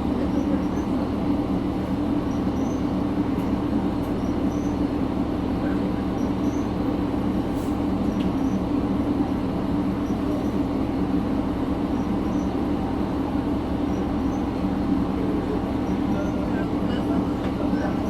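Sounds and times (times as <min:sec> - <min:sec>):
diesel railcar engine hum: 0:00.0 - 0:18.0.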